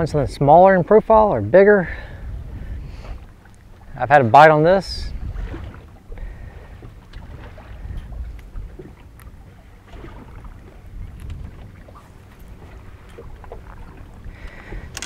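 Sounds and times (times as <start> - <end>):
water lapping against boat hull: 0.0 - 15.0
wind rumbling on microphone: 0.0 - 15.0.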